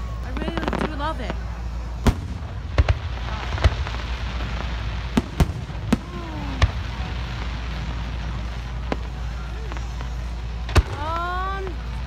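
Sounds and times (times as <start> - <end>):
fireworks bangs: 0.0 - 12.0
low rumble: 0.0 - 12.0.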